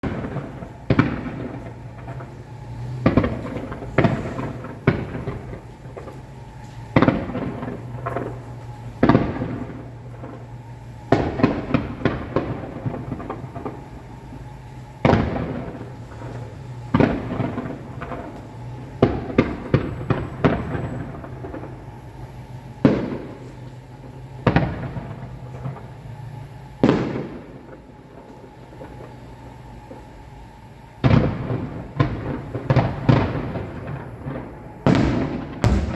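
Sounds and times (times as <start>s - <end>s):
fireworks bangs: 0.0s - 29.1s, 31.0s - 35.9s
fireworks crackling: 0.0s - 35.9s.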